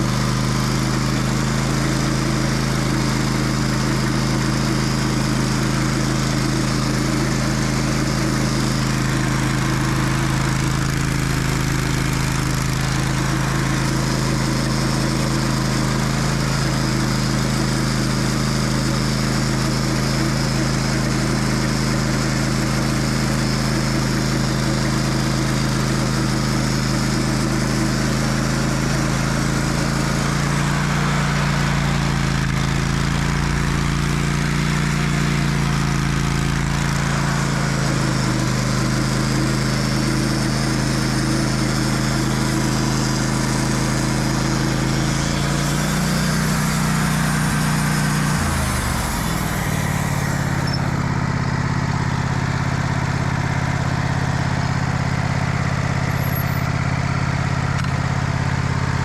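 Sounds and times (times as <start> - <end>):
sawmill engine cutting log: 0.0 - 59.0.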